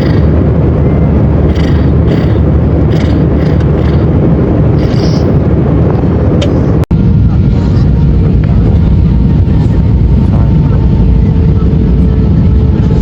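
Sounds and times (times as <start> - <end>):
airliner engines rumbling in cabin: 0.0 - 13.0.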